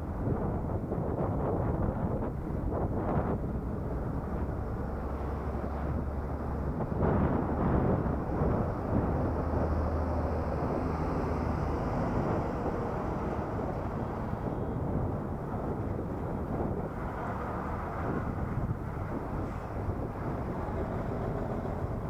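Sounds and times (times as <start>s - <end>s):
engine hum: 0.0s - 22.0s
road noise: 0.0s - 22.0s
wind noise: 0.0s - 22.0s.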